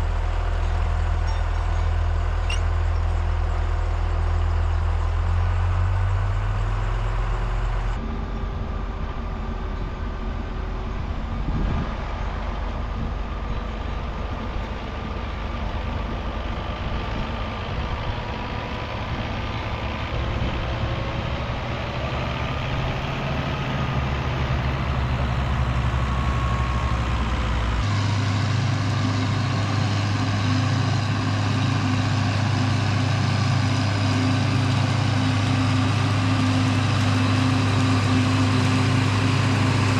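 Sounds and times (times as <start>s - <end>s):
heavy farm machinery engines: 0.0s - 39.9s.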